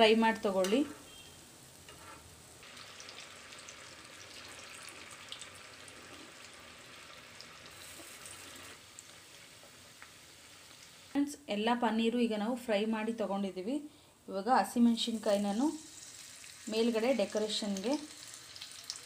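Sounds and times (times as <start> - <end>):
food deep-frying in hot oil: 0.0 - 11.4, 14.8 - 19.0.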